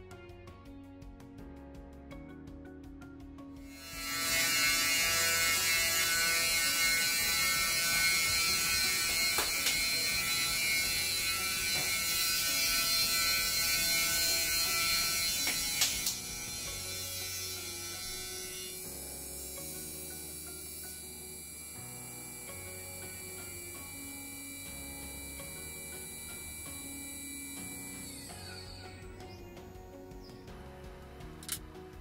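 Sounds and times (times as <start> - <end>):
mill spindle motor whining: 3.7 - 29.9.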